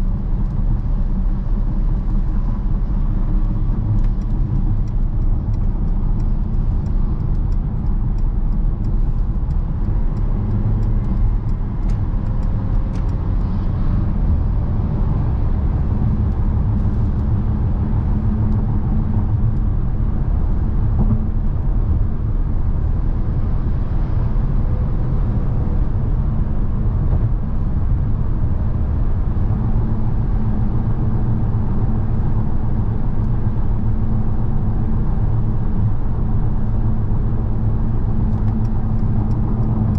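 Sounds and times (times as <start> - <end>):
tyre and road noise: 0.0 - 39.9
van engine rumble: 0.0 - 39.9.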